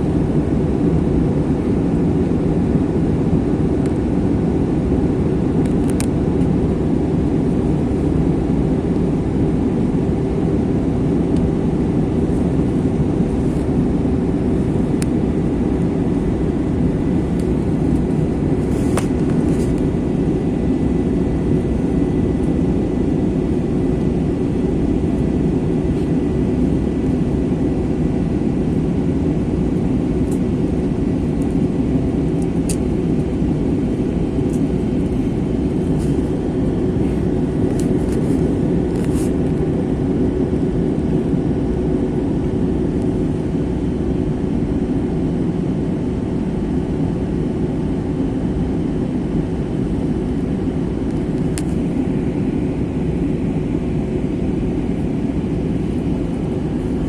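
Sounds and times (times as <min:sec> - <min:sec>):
aircraft cabin engine roar: 0:00.0 - 0:57.0
constant hum: 0:00.0 - 0:57.0.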